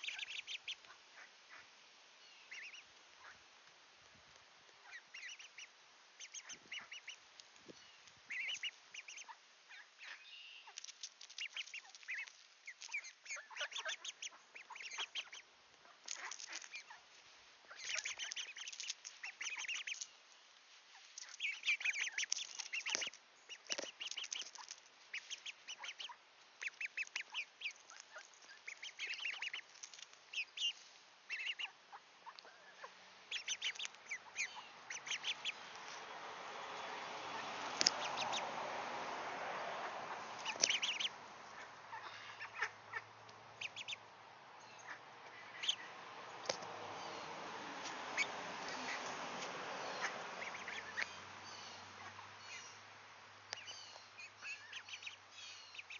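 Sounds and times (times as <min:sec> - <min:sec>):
ducklings peeping quacks: 0:00.0 - 0:55.9.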